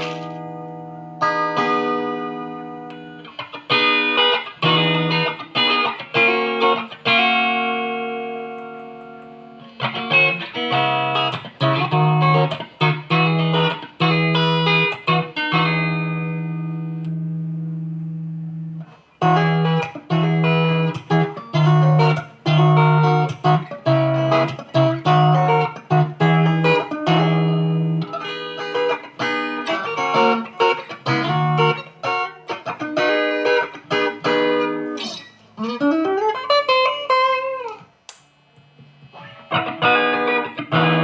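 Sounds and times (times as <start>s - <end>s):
electric guitar through amp: 0.0s - 37.8s, 38.5s - 41.0s.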